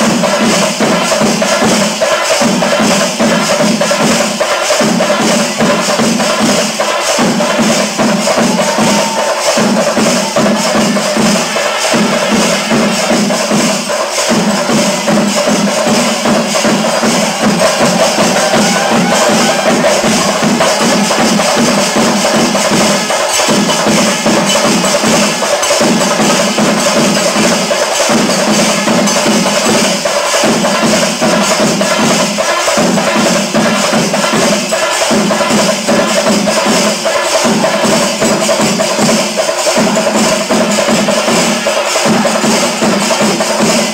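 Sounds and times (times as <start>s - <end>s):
music with percussion beat: 0.0s - 43.9s.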